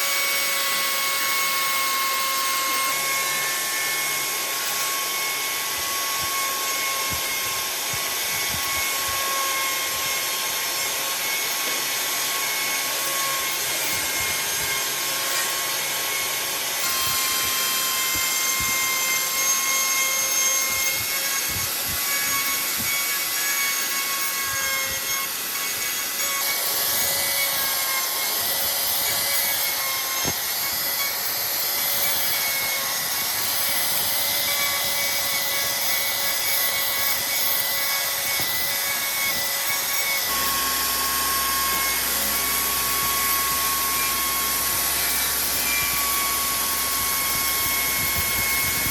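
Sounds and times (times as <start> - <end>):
electric power tool whining: 0.0 - 48.9.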